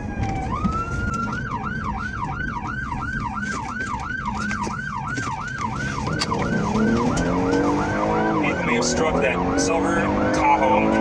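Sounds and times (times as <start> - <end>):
police siren yelping: 0.0 - 11.0
road and engine noise: 0.0 - 11.0.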